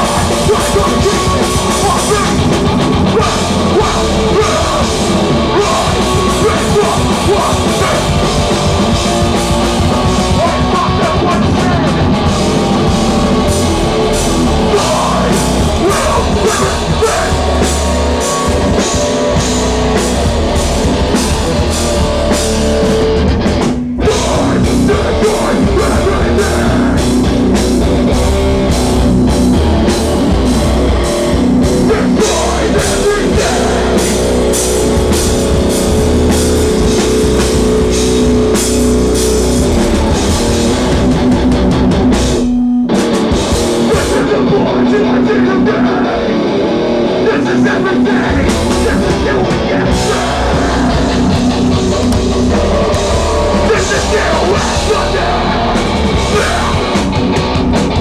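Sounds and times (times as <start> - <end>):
hardcore band playing loud: 0.0 - 58.0.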